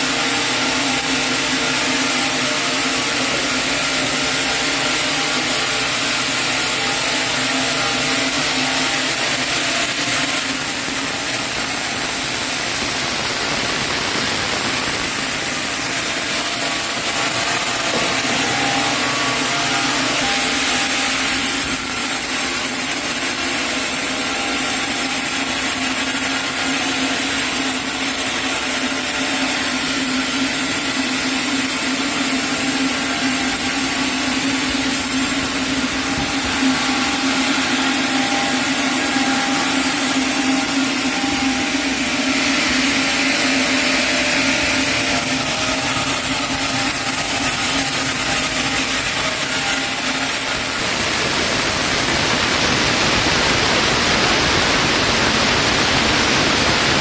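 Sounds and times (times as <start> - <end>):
saw cutting through log: 0.0 - 57.0.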